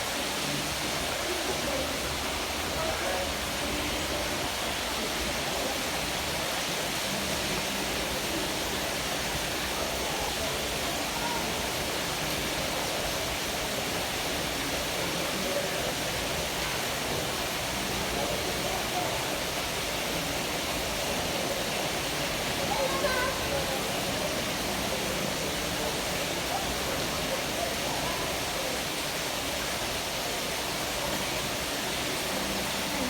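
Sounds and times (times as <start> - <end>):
faint voices: 0.0 - 33.0.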